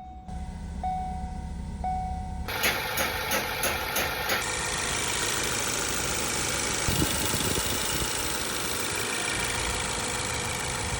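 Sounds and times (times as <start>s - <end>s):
car engine idling: 0.3s - 10.9s.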